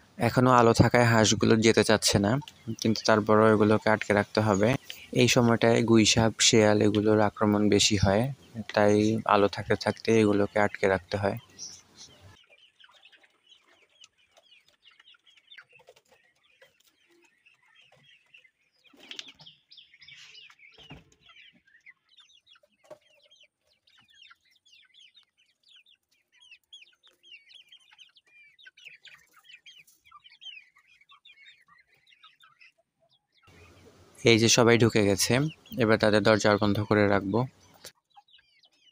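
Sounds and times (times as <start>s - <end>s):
chickens clucking and chirping: 0.0s - 38.9s.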